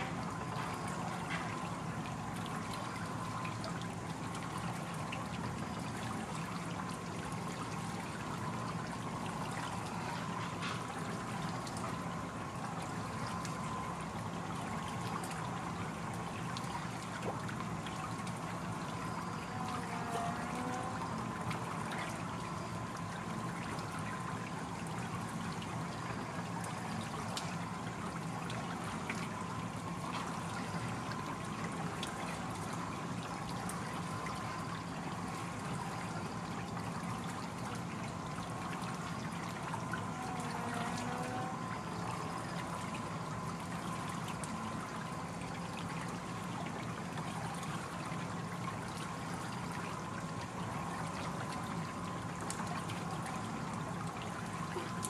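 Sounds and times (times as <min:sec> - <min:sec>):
stream babbling: 0:00.0 - 0:55.0.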